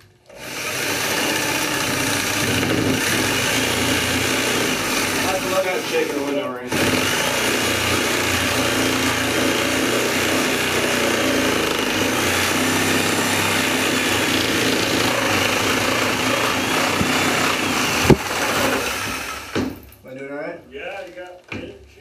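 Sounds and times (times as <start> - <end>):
reciprocating saw cutting wood: 0.4 - 19.8.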